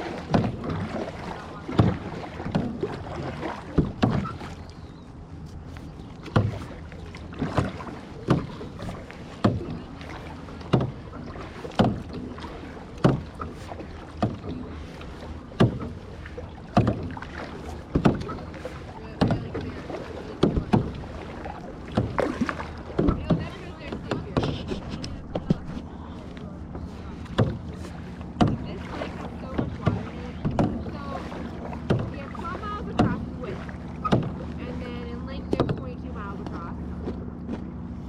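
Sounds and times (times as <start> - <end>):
kayak paddle strokes in water: 0.0 - 38.0.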